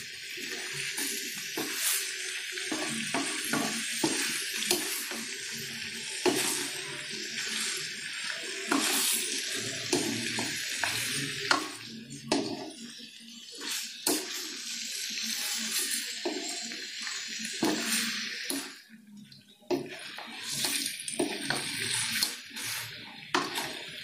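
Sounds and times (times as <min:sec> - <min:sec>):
meat sizzling in a wok: 0:00.0 - 0:24.0
spatula scraping a pan: 0:00.4 - 0:18.7, 0:19.7 - 0:24.0.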